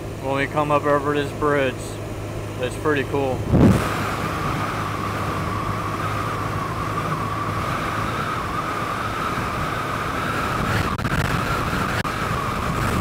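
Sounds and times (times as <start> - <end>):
high whine: 0.0 - 13.0
motorcycle engine hum: 0.0 - 13.0
road and wind noise: 0.0 - 13.0.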